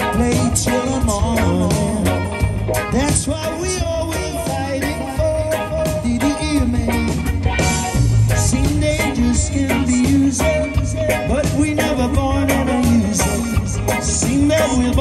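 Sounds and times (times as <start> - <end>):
live reggae band: 0.0 - 15.0
man singing: 0.0 - 15.0.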